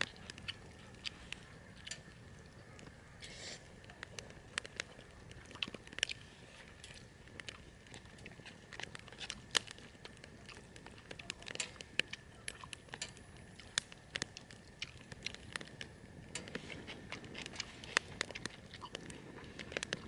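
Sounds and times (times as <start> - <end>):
small clicks and crackles: 0.0 - 20.0.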